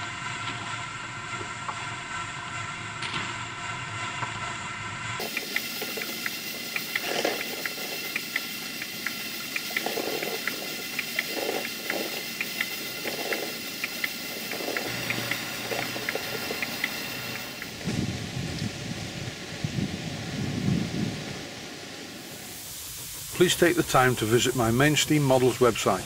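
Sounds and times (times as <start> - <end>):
exhaust puffs: 0.0 - 26.0
steam hissing: 0.0 - 26.0.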